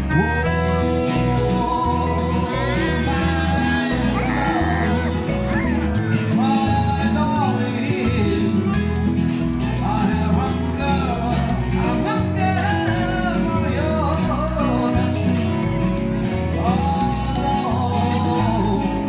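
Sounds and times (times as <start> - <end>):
bass line: 0.0 - 19.0
person singing with band: 0.0 - 19.0.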